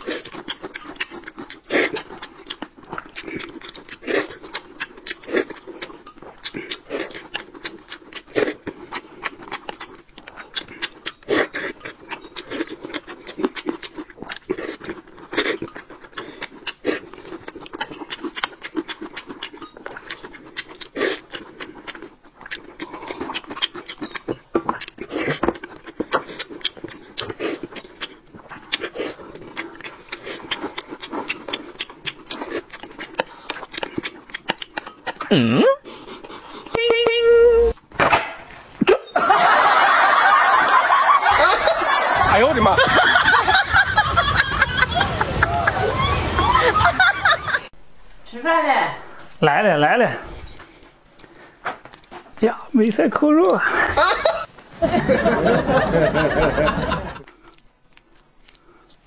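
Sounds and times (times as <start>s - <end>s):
people chewing and lip-smacking: 0.0s - 47.8s, 50.2s - 59.0s.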